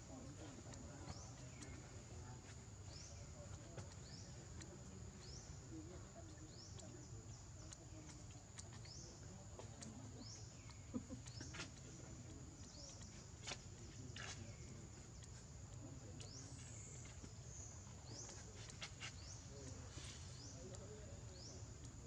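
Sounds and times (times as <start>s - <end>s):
faint clicks: 0.1s - 22.0s.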